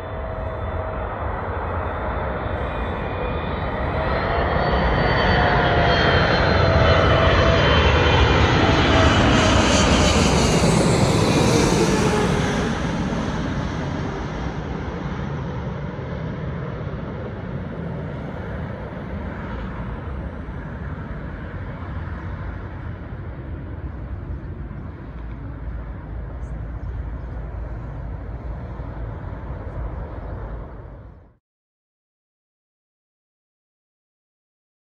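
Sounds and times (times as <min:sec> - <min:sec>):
jet engine rumble: 0:00.0 - 0:31.4.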